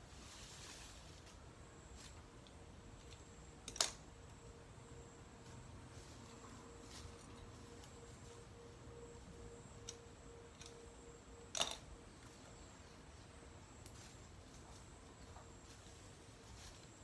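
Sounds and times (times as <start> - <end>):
faint steady tone: 0.0 - 17.0.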